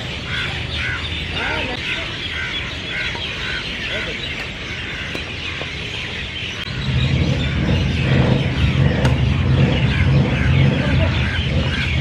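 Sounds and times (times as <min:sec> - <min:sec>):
high chirping: 0:00.0 - 0:12.0
vehicle engine rumbling: 0:00.0 - 0:12.0.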